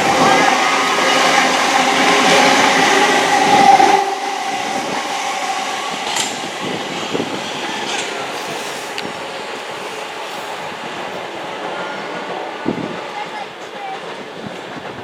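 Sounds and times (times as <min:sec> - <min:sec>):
train rolling on rails: 0:00.0 - 0:15.0.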